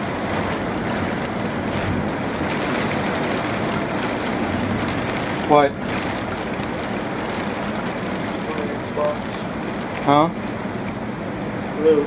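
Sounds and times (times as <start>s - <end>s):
heavy rain pouring: 0.0s - 12.0s
strong wind: 0.0s - 12.0s.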